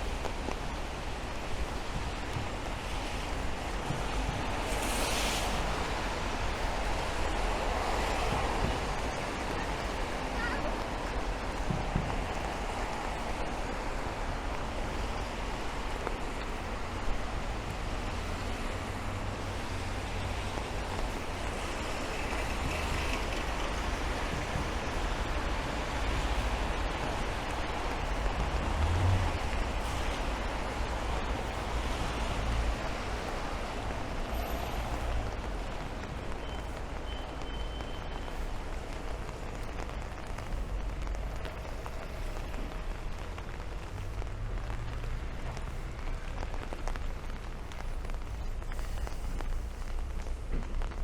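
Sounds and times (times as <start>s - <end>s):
cars passing on wet road: 0.0s - 51.0s
rain on a street: 0.0s - 51.0s.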